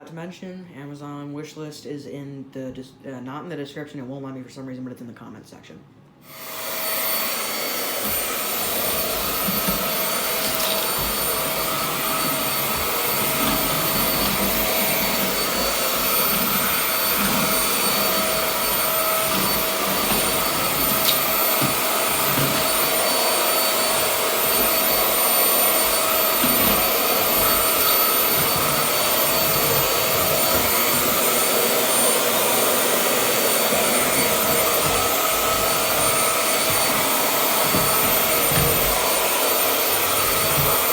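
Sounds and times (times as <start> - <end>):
vacuum cleaner whining: 6.2 - 40.9.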